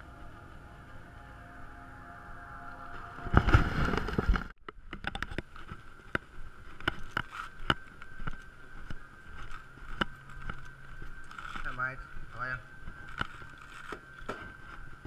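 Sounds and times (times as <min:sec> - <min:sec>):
steady high hum: 0:00.0 - 0:04.5, 0:05.4 - 0:15.0.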